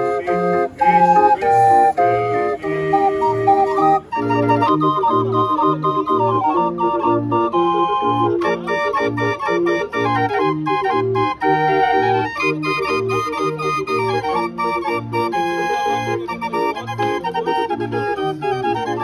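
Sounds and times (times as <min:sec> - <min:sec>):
barrel organ playing a tune: 0:00.0 - 0:19.0.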